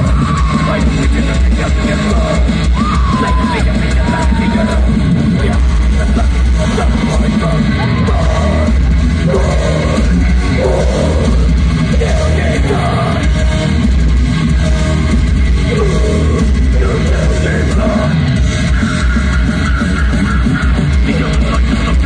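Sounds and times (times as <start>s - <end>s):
singer's vocals: 0.0s - 13.8s, 14.5s - 22.0s
distorted guitars: 0.0s - 22.0s
pounding drums: 0.0s - 22.0s.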